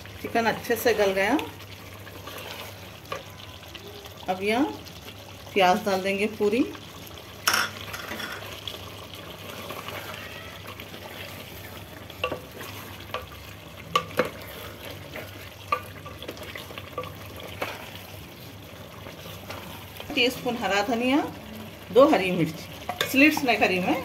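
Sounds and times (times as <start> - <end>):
spoon stirring onions: 0.0 - 24.0
stew bubbling and sizzling in pot: 0.0 - 24.0.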